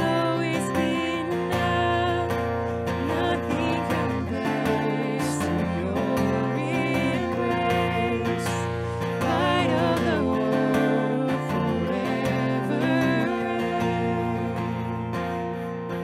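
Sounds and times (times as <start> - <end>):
person singing: 0.0 - 16.0
strummed acoustic guitar: 0.0 - 16.0.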